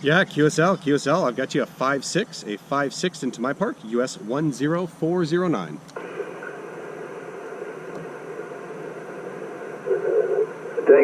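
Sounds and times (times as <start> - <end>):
radio receiver hiss and static: 0.0 - 11.0.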